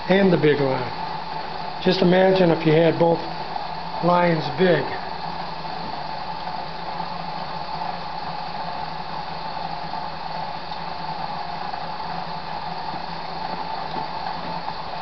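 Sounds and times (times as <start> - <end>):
alternator humming: 0.0 - 15.0.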